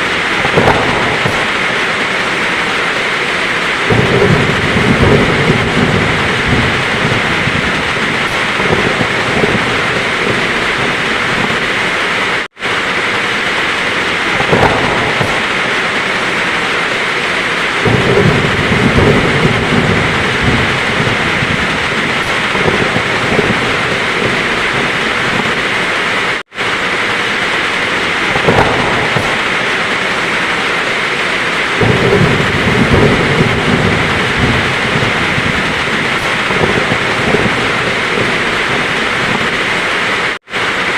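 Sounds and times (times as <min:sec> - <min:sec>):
heavy rain falling: 0:00.0 - 0:40.9
thunder rumbling: 0:00.0 - 0:40.9.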